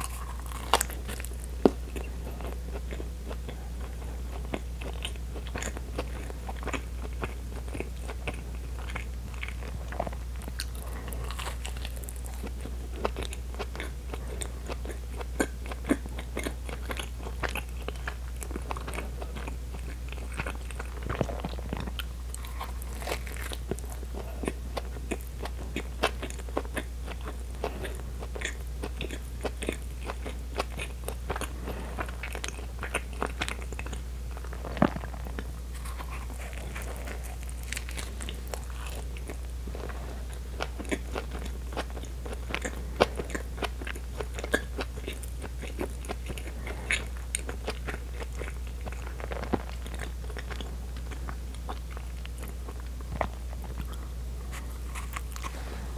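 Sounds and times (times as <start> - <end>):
chewing with wet mouth clicks: 0.0 - 55.5
steady low hum: 0.0 - 55.9.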